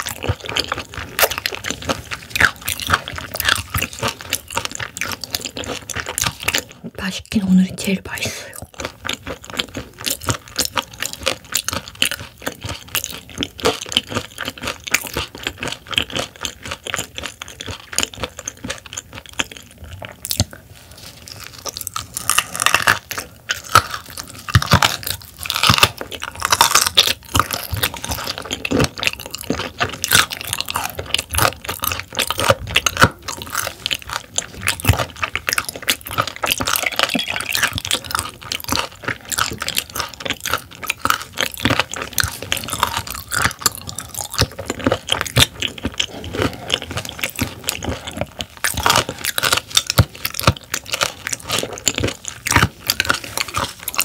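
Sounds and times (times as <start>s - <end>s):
wet chewing of raw fish: 0.0s - 54.0s.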